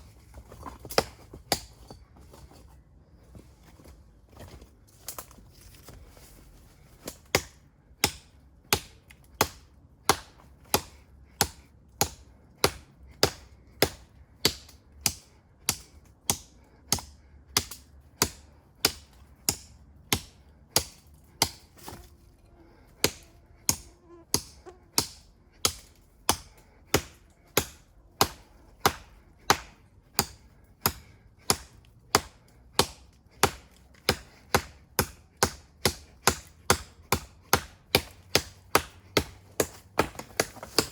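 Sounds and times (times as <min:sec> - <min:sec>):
knife chopping into tree trunk: 0:07.0 - 0:22.1, 0:23.0 - 0:40.9.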